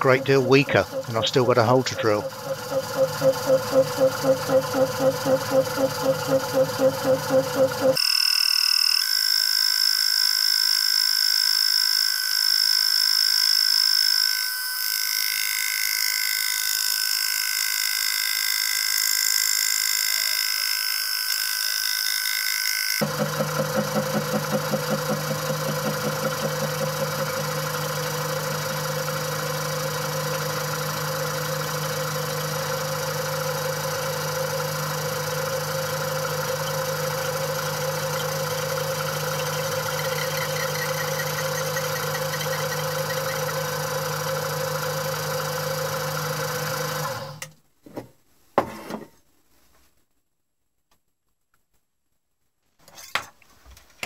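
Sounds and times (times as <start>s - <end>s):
mini mill spindle humming: 0.0s - 47.4s.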